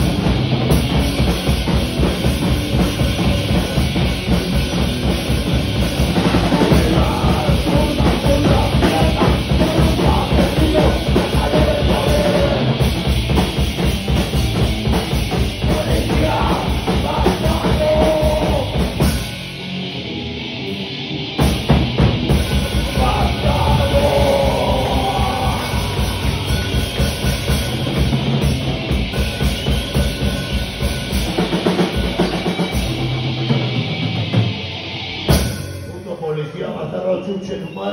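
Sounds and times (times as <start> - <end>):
drum kit pounding fast beat: 0.0 - 20.0, 21.4 - 36.1
live rock band playing loud: 0.0 - 36.5.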